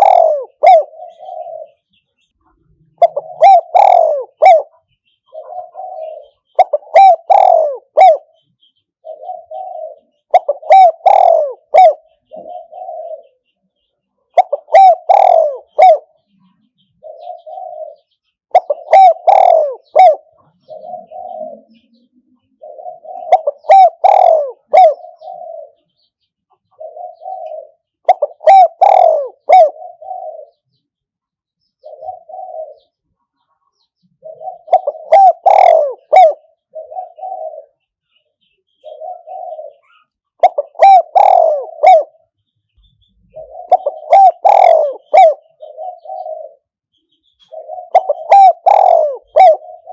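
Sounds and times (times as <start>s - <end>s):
dove cooing: 0.0s - 13.6s, 14.3s - 30.8s, 31.8s - 42.4s, 43.0s - 49.9s.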